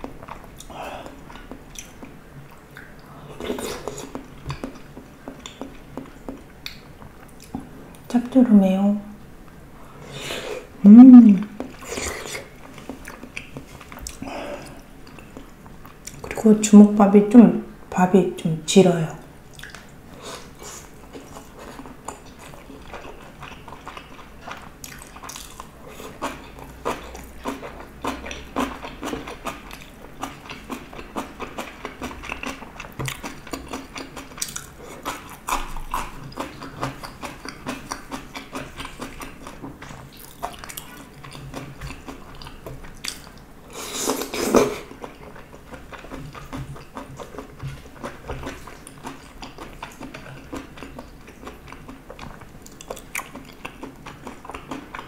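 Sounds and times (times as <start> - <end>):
mouth chewing and smacking: 0.0 - 8.1, 11.4 - 16.4, 19.5 - 55.0.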